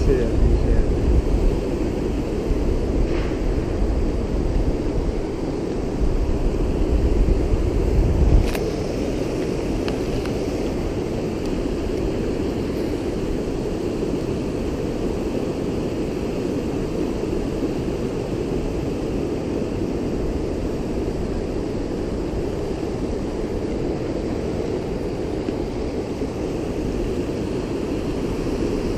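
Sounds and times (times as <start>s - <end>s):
creek water rushing over weir: 0.0s - 28.9s.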